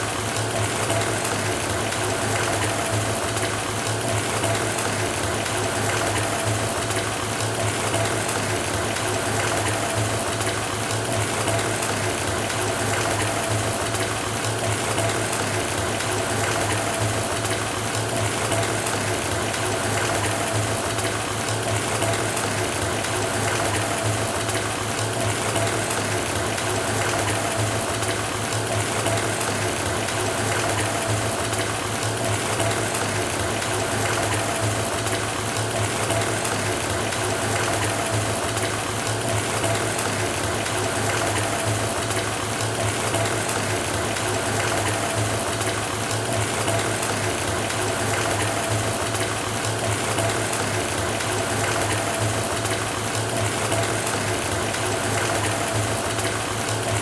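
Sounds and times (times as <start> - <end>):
water running into bathtub: 0.0 - 57.0.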